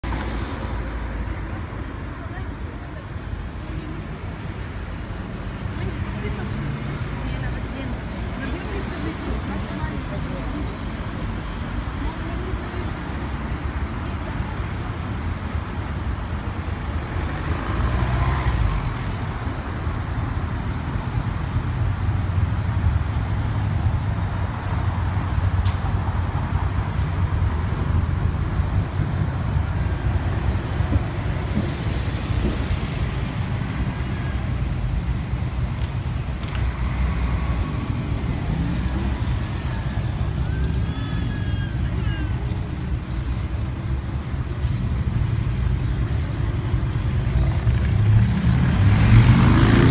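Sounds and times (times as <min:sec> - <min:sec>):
street traffic rumble: 0:00.0 - 0:49.9.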